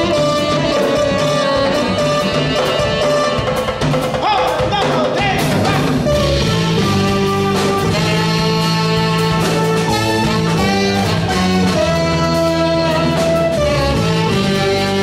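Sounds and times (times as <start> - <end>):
electric keyboard: 0.0 - 4.2, 5.5 - 15.0
saxophone melody: 0.0 - 4.2, 5.7 - 15.0
drum kit with cymbals: 0.0 - 15.0.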